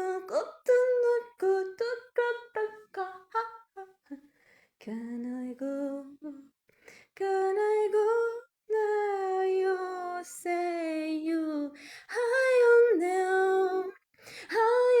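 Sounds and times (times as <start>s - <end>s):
woman singing unaccompanied: 0.0s - 6.5s, 7.1s - 15.0s.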